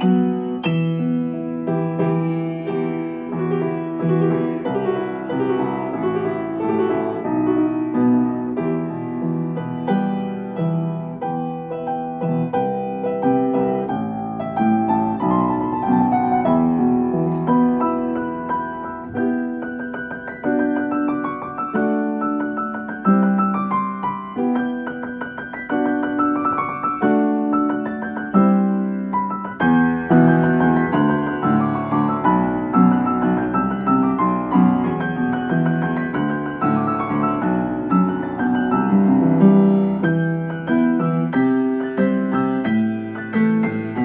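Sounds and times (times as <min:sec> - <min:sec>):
slow solo piano: 0:00.0 - 0:44.0.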